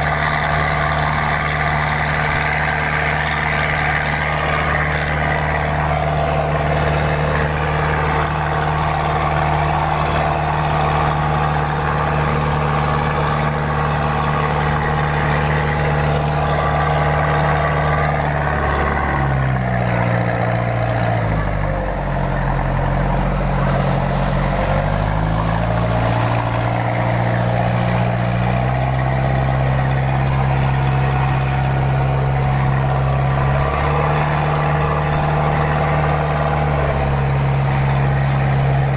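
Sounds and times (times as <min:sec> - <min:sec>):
boat diesel engine running: 0:00.0 - 0:38.9.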